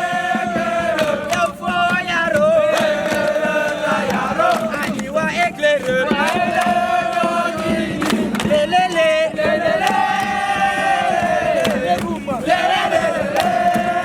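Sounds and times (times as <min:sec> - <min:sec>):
group chanting in song: 0:00.0 - 0:14.0.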